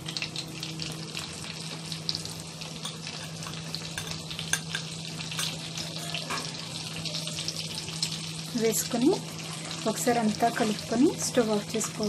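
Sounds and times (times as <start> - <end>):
hot oil sizzling and crackling: 0.0 - 12.0.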